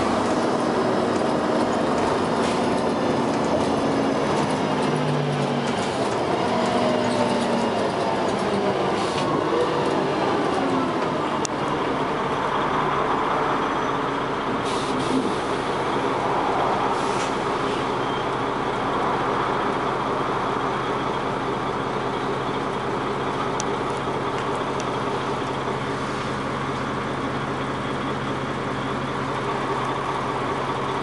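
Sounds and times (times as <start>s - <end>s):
bus engine running: 0.0s - 31.0s.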